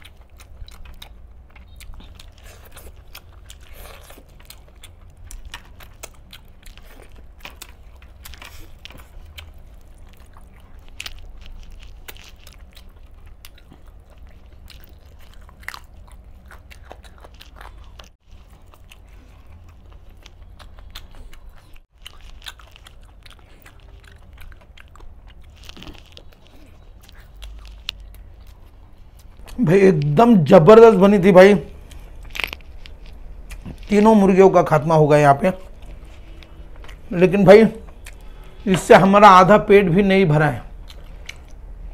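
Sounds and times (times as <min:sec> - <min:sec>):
man biting and chewing: 0:00.0 - 0:34.6, 0:35.4 - 0:39.2, 0:40.6 - 0:41.9.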